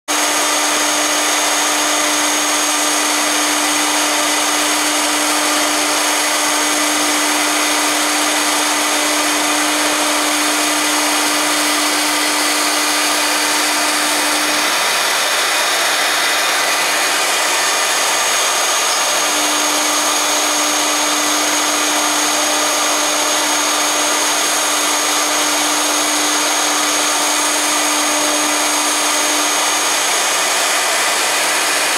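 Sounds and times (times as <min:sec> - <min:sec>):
router spindle high whine: 0:00.1 - 0:31.9.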